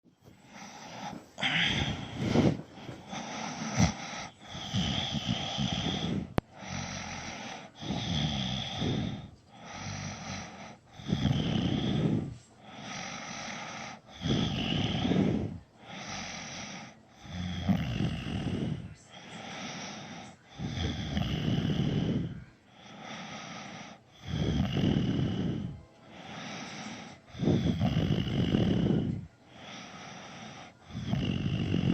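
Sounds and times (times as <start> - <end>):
man snoring: 0.3 - 31.9.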